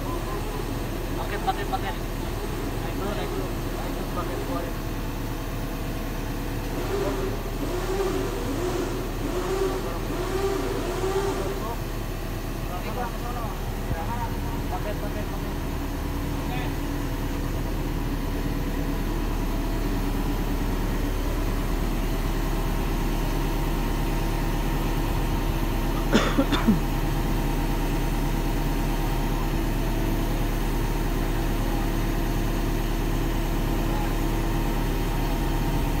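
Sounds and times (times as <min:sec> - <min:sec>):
excavator diesel engine idling: 0:00.0 - 0:36.0.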